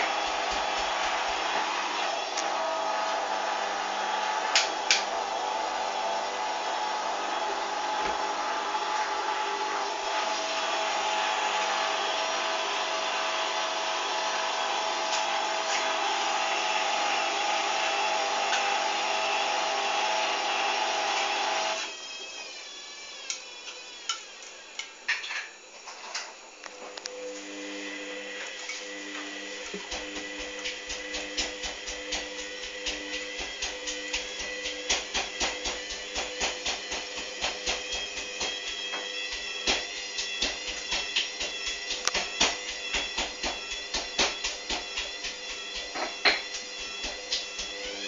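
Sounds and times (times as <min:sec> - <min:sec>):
washing machine humming: 0:00.0 - 0:25.1, 0:26.2 - 0:48.0.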